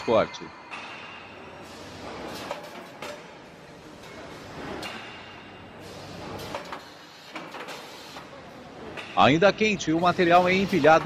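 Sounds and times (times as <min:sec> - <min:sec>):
conveyor rumble and hiss: 0:00.8 - 0:11.0.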